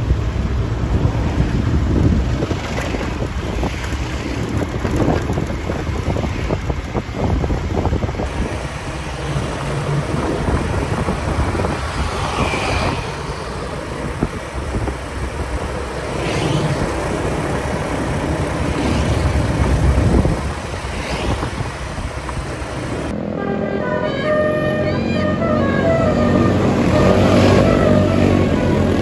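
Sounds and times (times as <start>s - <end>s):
minibus engine and road rumble: 0.0s - 29.0s.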